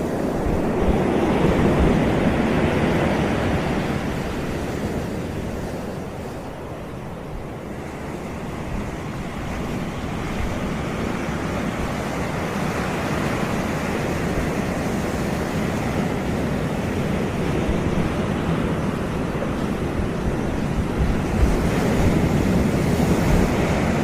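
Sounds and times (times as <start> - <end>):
sea waves breaking on beach: 0.0 - 24.0
wind buffeting microphone: 0.0 - 24.0.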